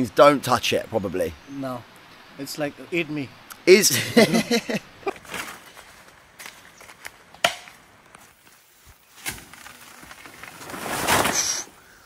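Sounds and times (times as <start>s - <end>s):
leaves and undergrowth rustling: 0.0s - 12.0s.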